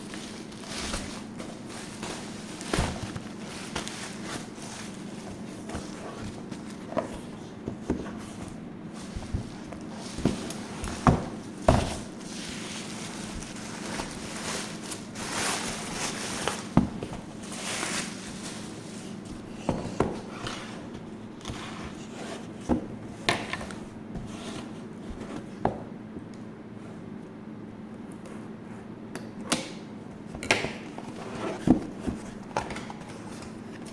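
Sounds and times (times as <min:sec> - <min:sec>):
packaging rustling and scraping: 0:00.0 - 0:25.6, 0:30.7 - 0:33.9.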